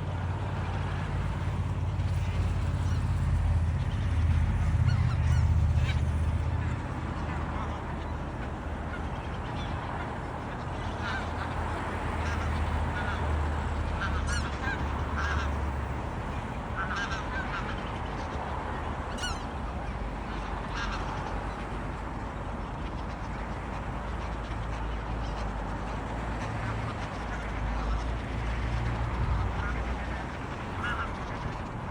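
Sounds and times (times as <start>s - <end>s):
geese honking: 0.0s - 31.9s.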